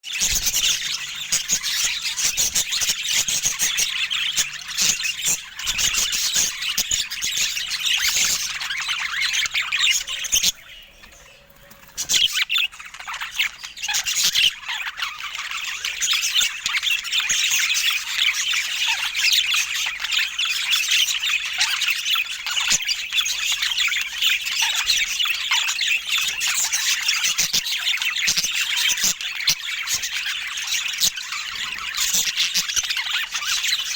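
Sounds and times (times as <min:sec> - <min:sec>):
budgerigars chattering and warbling: 0:00.1 - 0:33.9.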